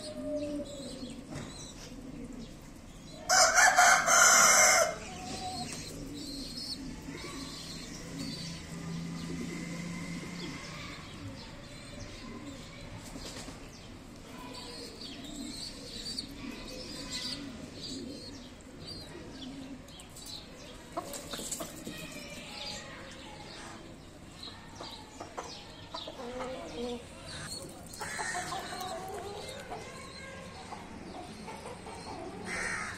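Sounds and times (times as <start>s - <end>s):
chickens clucking: 0.0s - 10.9s, 14.7s - 22.4s, 24.7s - 32.9s
birds chirping: 0.0s - 32.9s.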